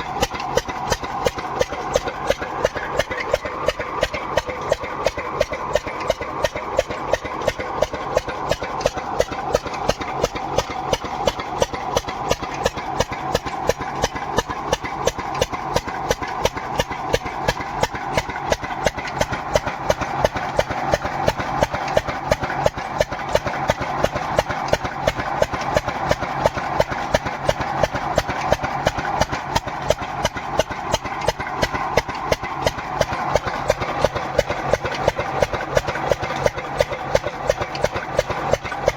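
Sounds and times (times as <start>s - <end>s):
engine running with regular firing pulses: 0.0s - 38.9s.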